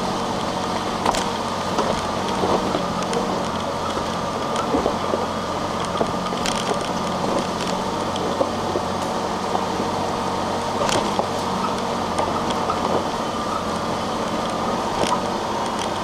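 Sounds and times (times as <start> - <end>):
car engine running at low speed: 0.0 - 16.0.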